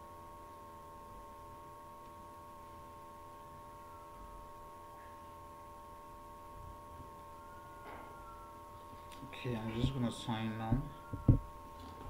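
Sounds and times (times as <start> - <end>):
high-pitched hum: 0.0 - 12.0.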